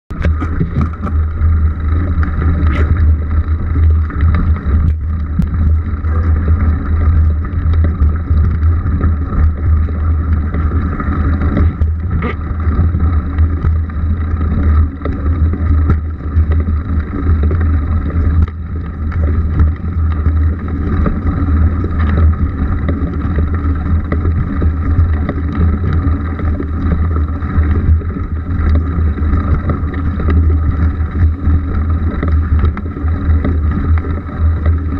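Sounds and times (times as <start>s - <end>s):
bike tyre noise: 0.1s - 34.9s
wind rumble on microphone: 0.1s - 34.9s.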